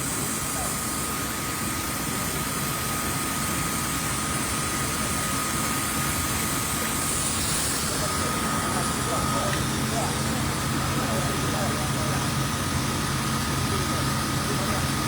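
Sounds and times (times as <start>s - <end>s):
steady engine-like noise: 0.0s - 15.0s.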